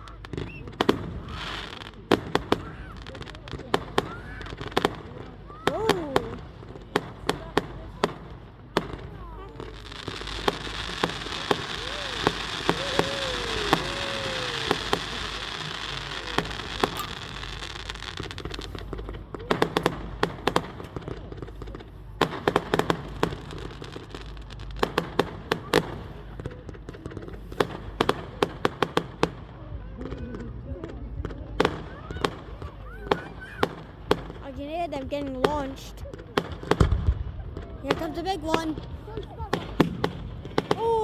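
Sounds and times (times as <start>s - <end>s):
fireworks bangs: 0.0s - 41.0s
fireworks crackling hiss: 0.0s - 41.0s.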